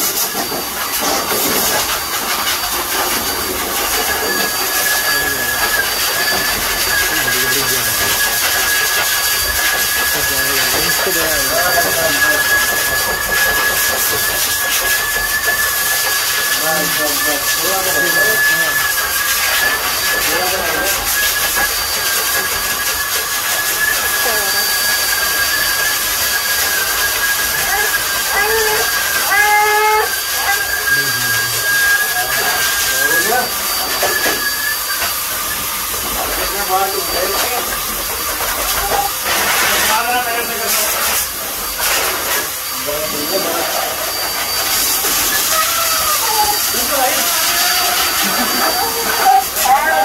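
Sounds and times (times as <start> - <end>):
blow dryer air rushing: 0.0 - 50.0
dryer motor whine: 0.0 - 50.0.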